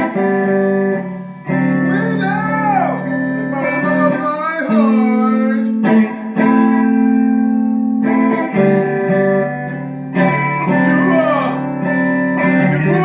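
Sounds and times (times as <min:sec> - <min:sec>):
guitar chords: 0:00.0 - 0:13.0.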